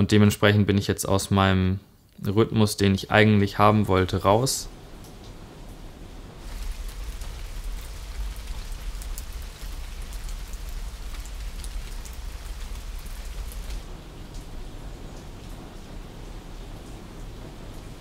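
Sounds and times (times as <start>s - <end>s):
steady rain falling: 0.0s - 18.0s
close raindrops ticking: 2.0s - 18.0s
low rumble: 3.3s - 18.0s.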